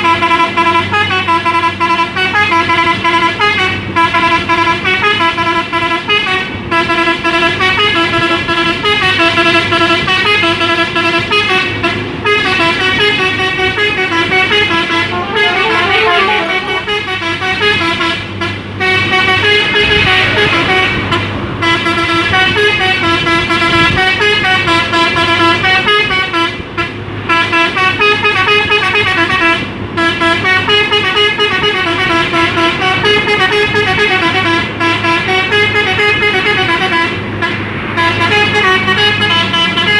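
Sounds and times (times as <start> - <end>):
multi-tone truck horn tune: 0.0 - 39.9
truck engine humming: 0.0 - 39.9.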